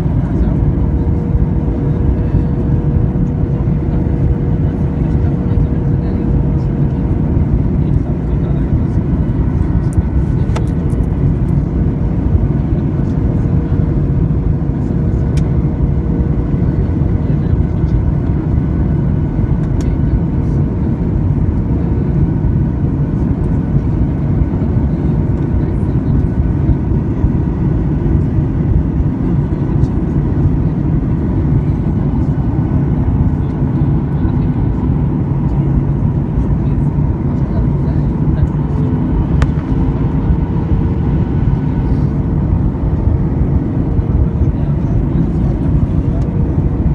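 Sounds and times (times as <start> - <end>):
aircraft cabin rumble: 0.0 - 46.9.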